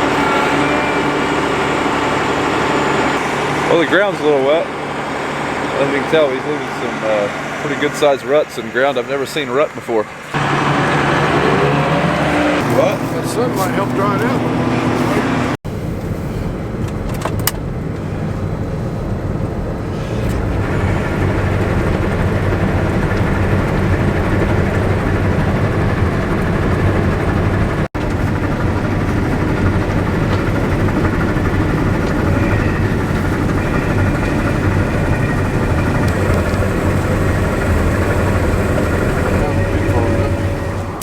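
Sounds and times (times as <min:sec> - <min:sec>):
diesel machinery droning: 0:00.0 - 0:41.0.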